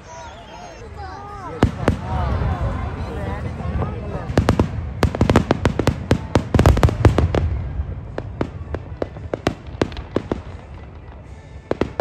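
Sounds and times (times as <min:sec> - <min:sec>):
fireworks bursting and crackling: 0:01.3 - 0:12.0.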